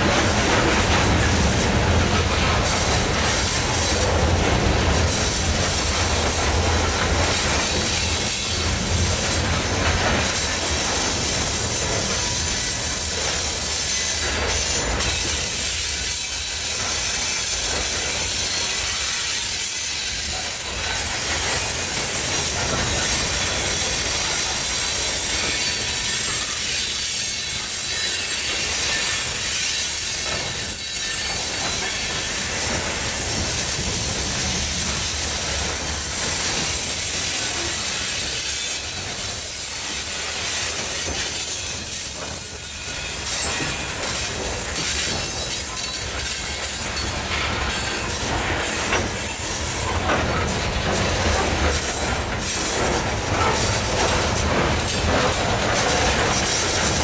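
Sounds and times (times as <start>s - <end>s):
train clicks: 0.0s - 57.0s
train wheels rumbling on rail: 0.0s - 57.0s.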